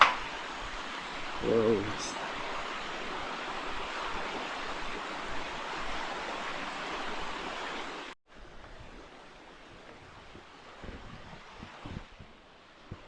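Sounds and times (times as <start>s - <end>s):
river water rushing: 0.0s - 12.9s.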